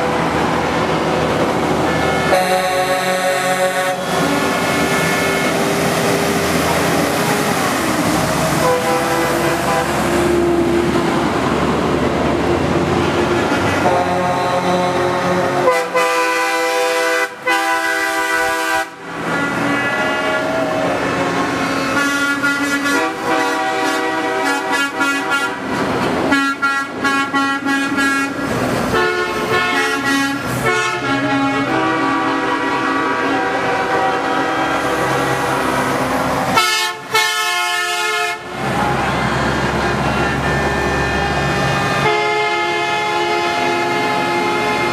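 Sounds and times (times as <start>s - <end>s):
truck air horns blowing: 1.7s - 10.8s, 13.3s - 44.9s.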